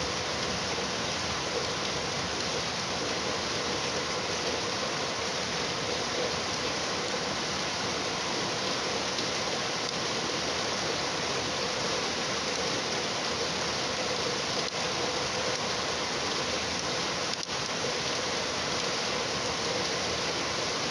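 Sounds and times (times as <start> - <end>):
steady rain: 0.0 - 20.9.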